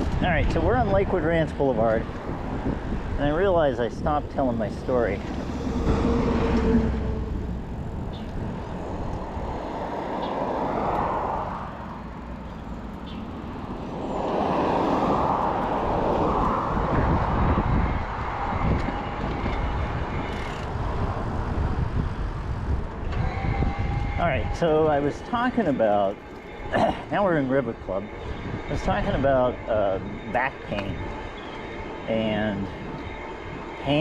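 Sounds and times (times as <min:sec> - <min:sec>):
wind on microphone: 0:00.0 - 0:24.6, 0:27.8 - 0:31.9
cars passing: 0:00.0 - 0:34.0.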